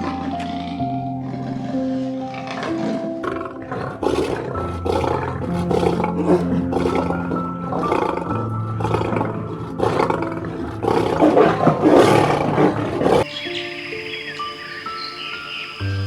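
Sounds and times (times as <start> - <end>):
large animal rough calls: 0.0 - 13.2
calm piano and guitar music: 0.0 - 16.0.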